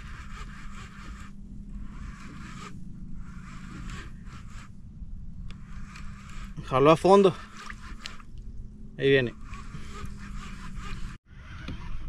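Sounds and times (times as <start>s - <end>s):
fishing reel whirring: 0.0s - 4.8s, 5.4s - 12.0s.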